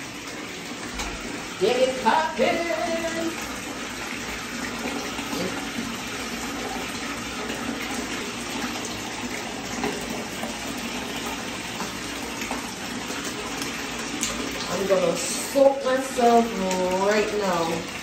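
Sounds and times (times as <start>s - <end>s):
water running into bathtub: 0.0s - 18.0s.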